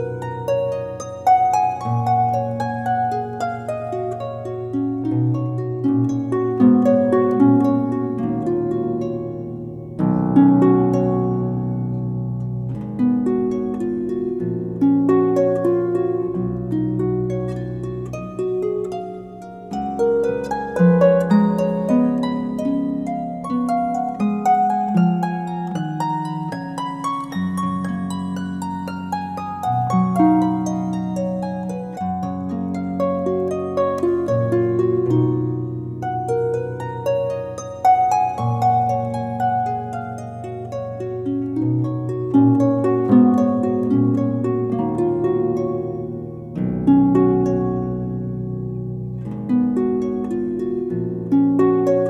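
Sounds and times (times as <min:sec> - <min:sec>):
plucked string melody: 0:00.0 - 0:52.0.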